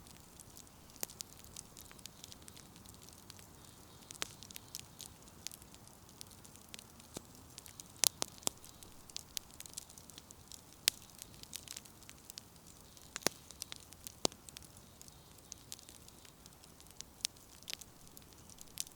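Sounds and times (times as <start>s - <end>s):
bonfire crackling and popping: 0.0s - 18.9s
faint steady hiss: 0.0s - 18.9s.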